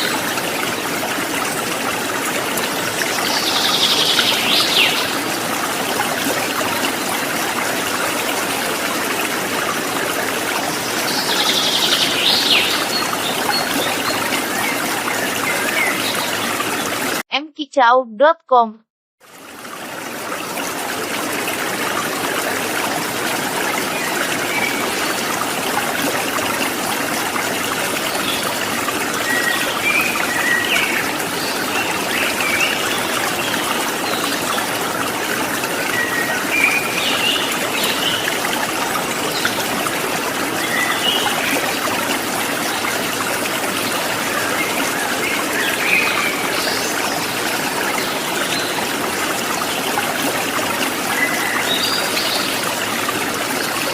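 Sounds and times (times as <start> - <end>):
water trickling and splashing: 0.0 - 17.2, 19.2 - 53.9.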